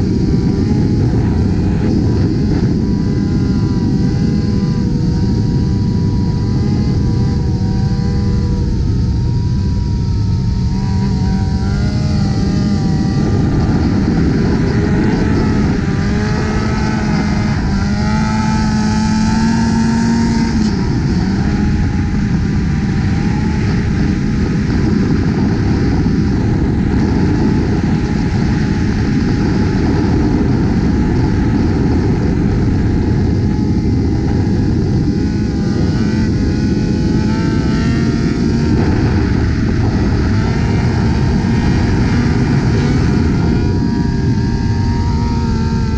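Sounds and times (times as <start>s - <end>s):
motorcycle engines running: 0.0s - 45.9s
road noise: 0.0s - 45.9s
wind rushing: 0.0s - 45.9s.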